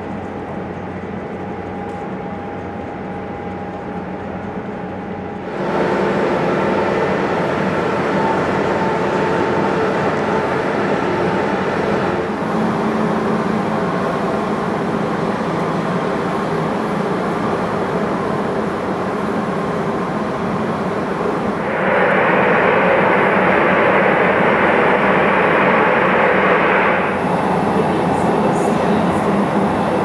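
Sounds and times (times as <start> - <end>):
jet turbine whining: 5.4 - 30.0.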